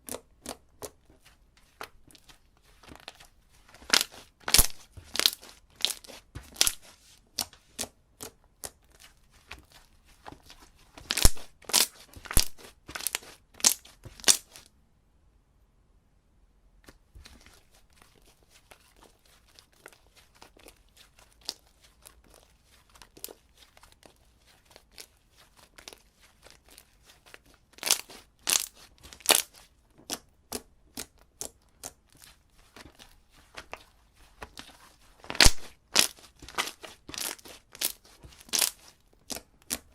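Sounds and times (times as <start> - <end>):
slime squishing with wet clicks: 0.0 - 14.7, 16.8 - 39.9.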